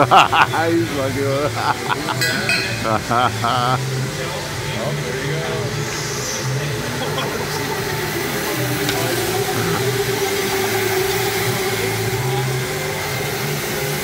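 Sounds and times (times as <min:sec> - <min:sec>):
electric go-karts whirring: 0:00.0 - 0:14.0.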